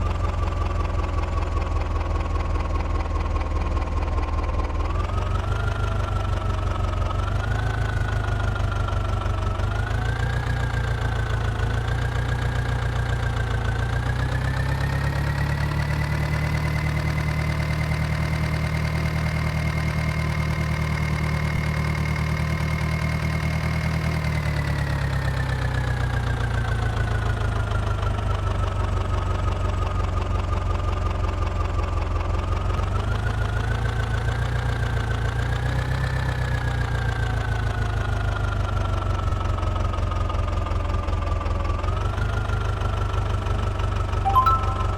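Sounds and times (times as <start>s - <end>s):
diesel tractor engine with whine: 0.0s - 43.8s.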